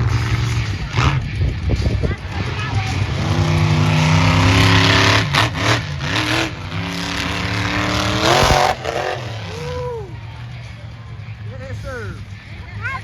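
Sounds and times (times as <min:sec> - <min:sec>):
monster truck engine revving: 0:00.0 - 0:12.4.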